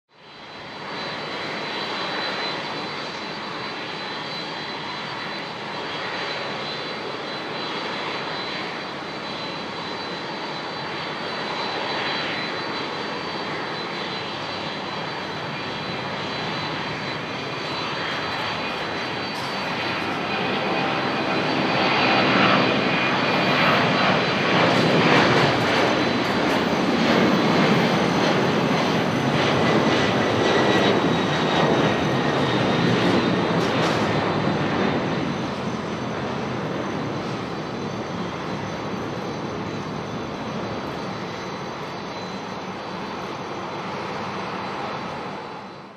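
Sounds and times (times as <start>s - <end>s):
jet engines at takeoff power: 0.1s - 45.9s.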